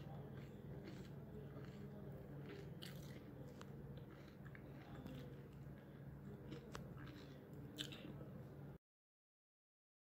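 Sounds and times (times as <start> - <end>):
cat chewing and crunching: 0.0 - 8.3
low steady hum: 0.0 - 8.8.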